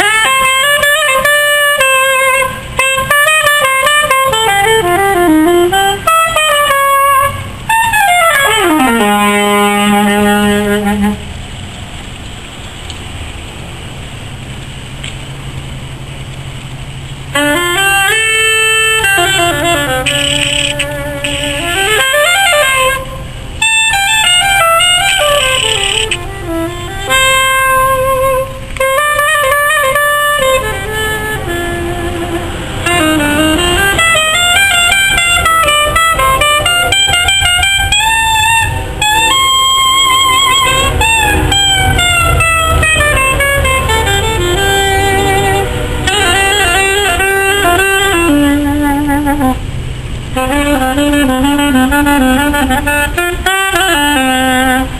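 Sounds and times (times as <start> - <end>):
solo wind instrument: 0.0 - 11.7, 17.2 - 54.9
steady low rumble: 0.4 - 54.9.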